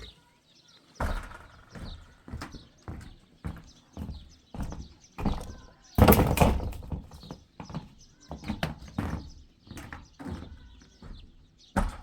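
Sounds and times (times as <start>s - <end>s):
irregular knocks and thumps: 1.0s - 12.0s.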